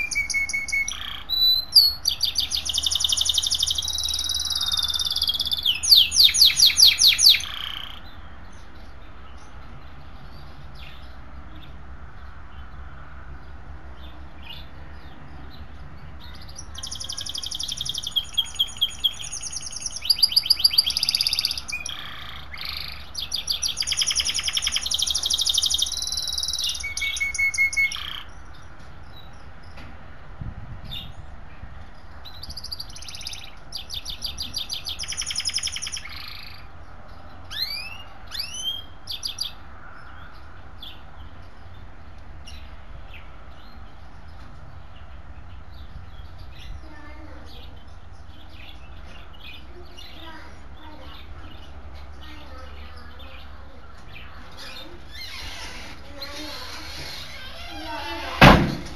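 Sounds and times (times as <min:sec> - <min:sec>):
songbird trilling and warbling: 0:00.0 - 0:29.8, 0:31.8 - 0:58.9.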